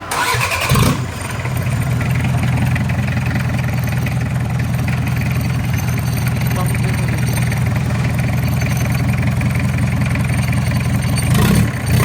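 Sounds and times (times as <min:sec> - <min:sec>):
diesel engine starting and idling: 0:00.0 - 0:12.0.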